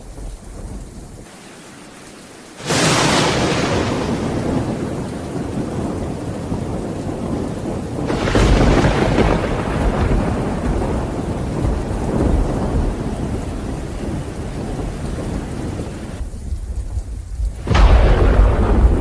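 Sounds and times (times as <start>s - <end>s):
thunderclap rumbling: 0.0s - 1.4s, 2.6s - 19.0s
steady rain: 0.0s - 19.0s.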